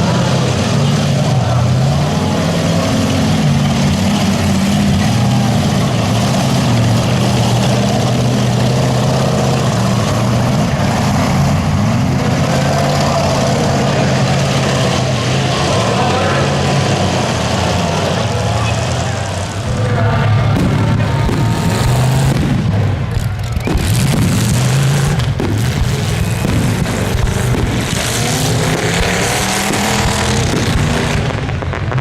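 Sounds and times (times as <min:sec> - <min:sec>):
loud car engines running: 0:00.0 - 0:32.0.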